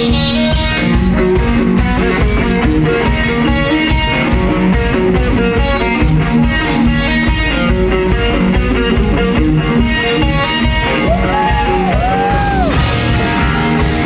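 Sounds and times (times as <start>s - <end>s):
bass: 0.0s - 14.0s
electric guitar rhythmic figure: 0.0s - 14.0s.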